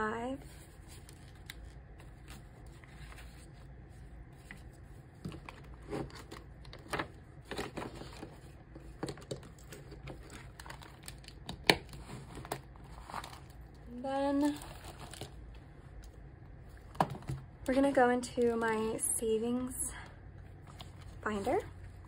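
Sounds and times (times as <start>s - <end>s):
paper and plastic rustling: 0.3s - 17.4s, 20.5s - 22.0s.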